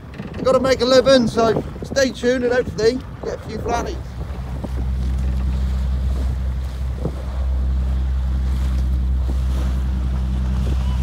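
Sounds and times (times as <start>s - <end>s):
boat engine droning: 0.0s - 11.0s
waves washing against hulls: 0.0s - 11.0s
wind buffeting microphone: 0.0s - 11.0s.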